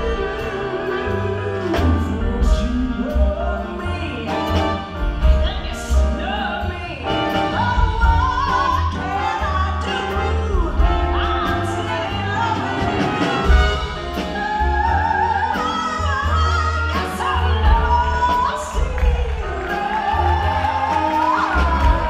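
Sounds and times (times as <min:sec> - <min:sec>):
jazz combo playing: 0:00.0 - 0:22.0
woman singing jazz ballad: 0:00.0 - 0:22.0.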